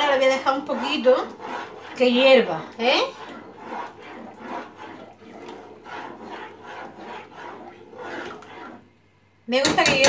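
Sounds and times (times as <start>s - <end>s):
spoon stirring soup in a pot: 0.0s - 9.0s, 9.6s - 10.0s.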